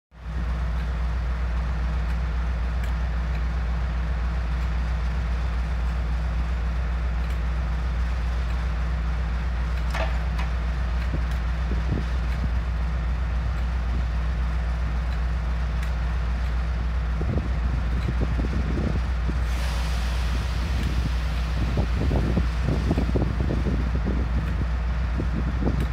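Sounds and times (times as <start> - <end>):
diesel locomotive engine drone: 0.1 - 25.9.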